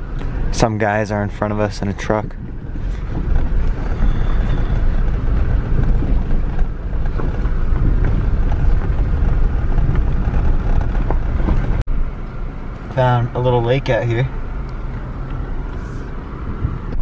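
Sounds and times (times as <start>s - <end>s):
car engine: 0.0s - 17.0s
tyres rumbling on dirt road: 0.0s - 17.0s.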